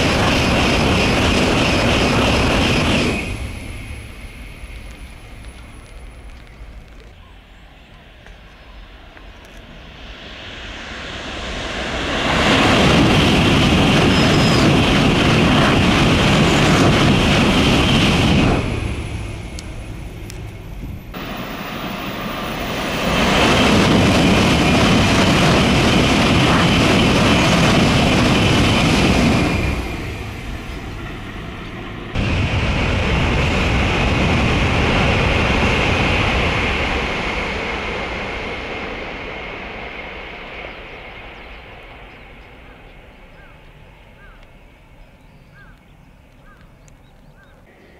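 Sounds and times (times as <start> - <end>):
high-speed trains passing: 0.0 - 47.9.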